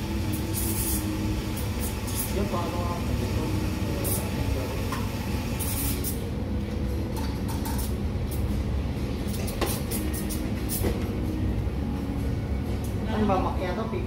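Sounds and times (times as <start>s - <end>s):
espresso machinery rumble: 0.0s - 13.0s.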